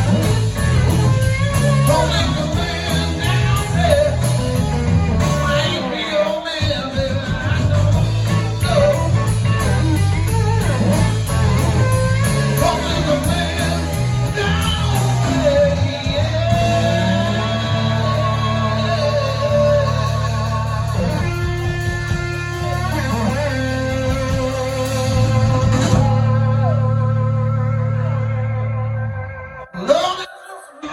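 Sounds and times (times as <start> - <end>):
blues rock band playing: 0.0 - 29.7
electric guitar bending notes: 0.0 - 30.3.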